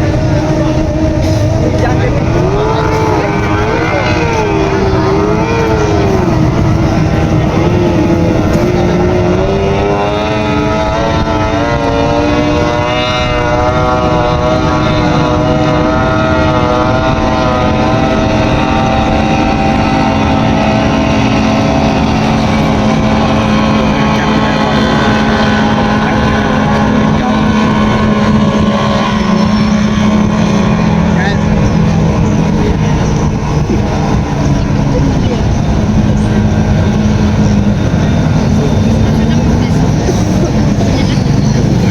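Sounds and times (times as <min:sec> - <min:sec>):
powerboat engines revving: 0:00.0 - 0:41.9.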